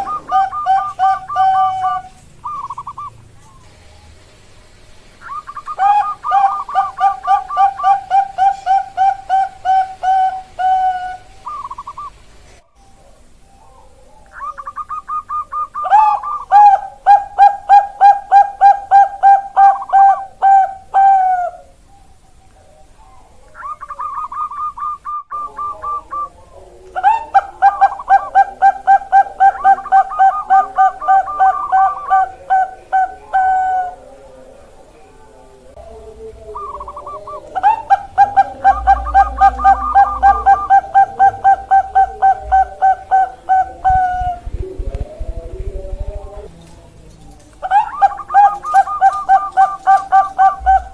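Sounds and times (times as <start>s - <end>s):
dove cooing song: 0.0s - 4.0s, 5.1s - 50.9s.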